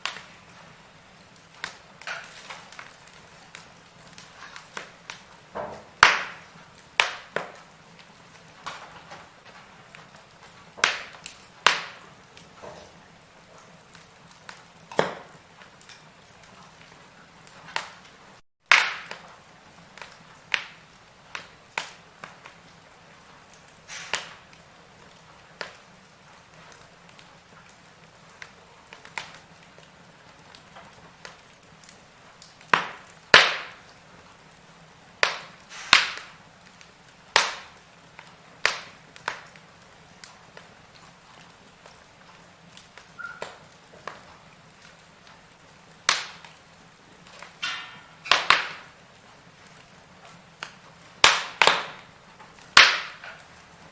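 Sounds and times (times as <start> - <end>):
faint steady hiss: 0.0 - 53.9
wood fire crackling and popping: 0.0 - 53.9.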